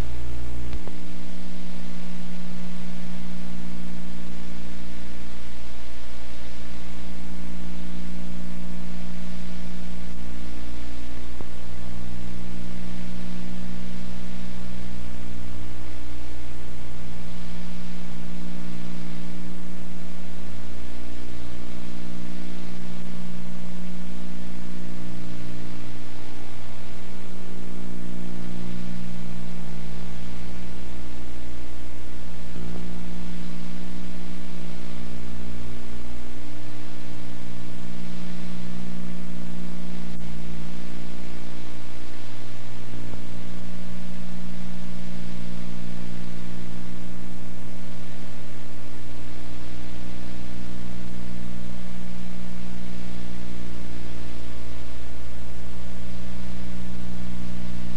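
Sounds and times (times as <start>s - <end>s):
loud electrical hum: 0.0s - 57.9s
steady hiss: 0.0s - 57.9s.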